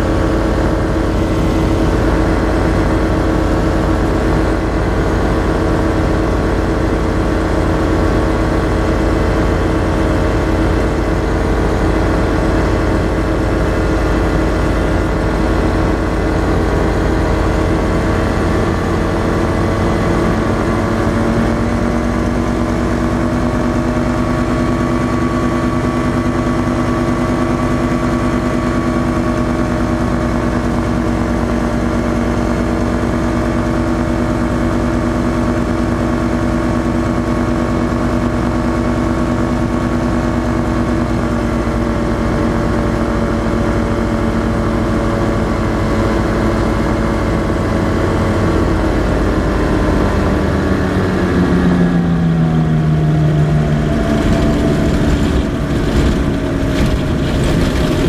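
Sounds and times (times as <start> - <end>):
ultralight engine and propeller: 0.0 - 58.0.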